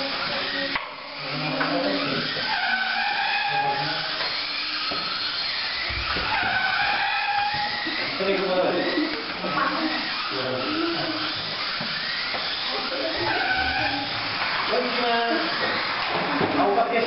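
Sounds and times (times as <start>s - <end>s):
toy car electric motors whining: 0.0s - 17.0s.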